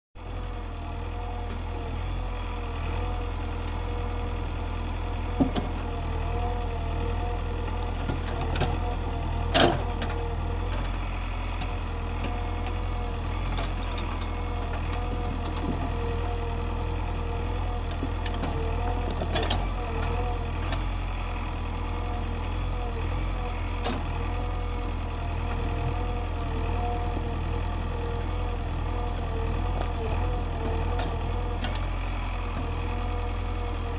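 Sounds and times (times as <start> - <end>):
diesel engine running: 0.2 - 33.9
hydraulic arm whine: 5.2 - 33.9.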